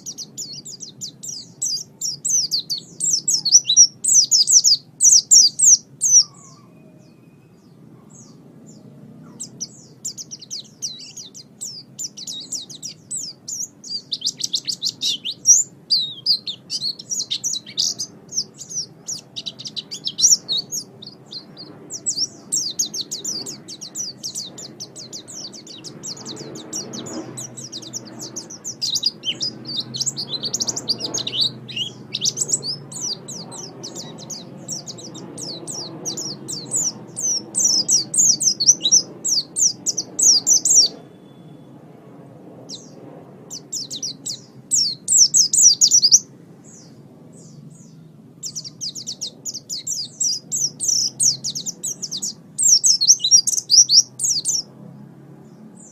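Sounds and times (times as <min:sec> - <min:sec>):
songbird chirping: 0:00.0 - 0:41.8, 0:42.7 - 0:55.9.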